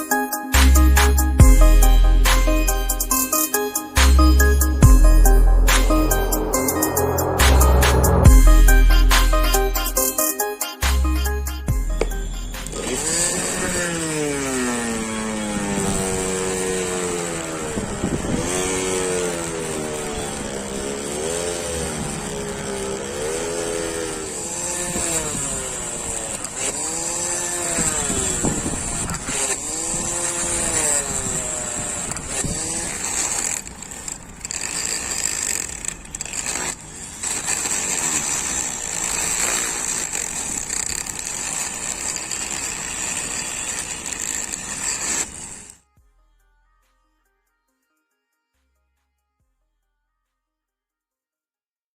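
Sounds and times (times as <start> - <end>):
angle grinder motor running: 0.0 - 45.8.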